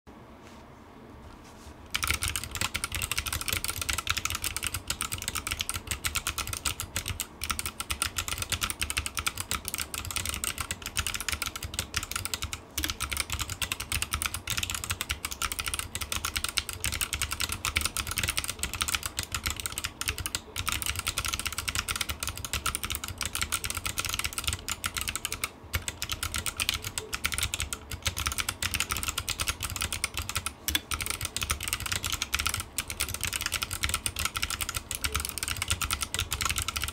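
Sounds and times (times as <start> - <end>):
mechanical keyboard typing: 1.9 - 36.9.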